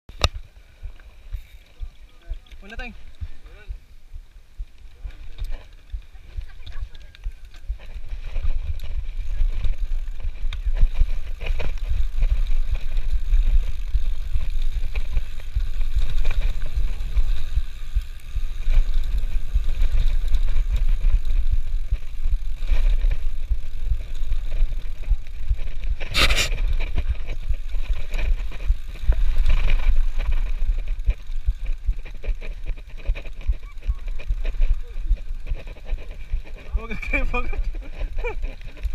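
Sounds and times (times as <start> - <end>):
bike rattling over bumps: 0.1 - 38.9
wind rumble on microphone: 0.1 - 38.9.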